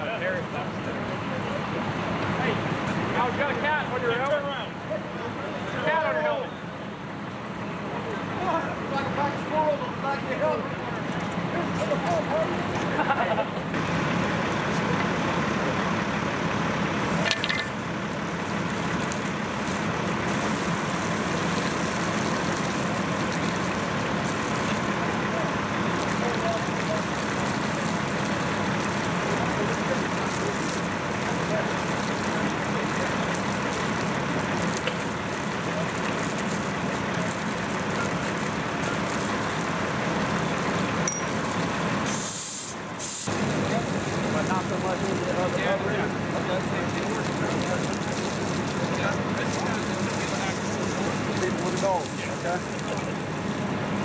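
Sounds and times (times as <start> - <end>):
fire engine pump running: 0.0 - 54.0
hose spraying water: 8.4 - 54.0.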